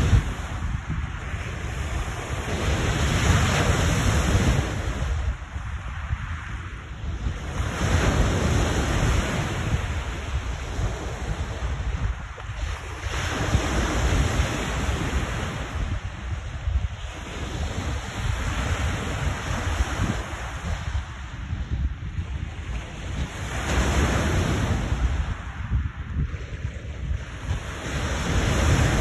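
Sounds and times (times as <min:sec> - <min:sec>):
waves crashing on shore: 0:00.0 - 0:29.0
wind buffeting microphone: 0:00.0 - 0:29.0.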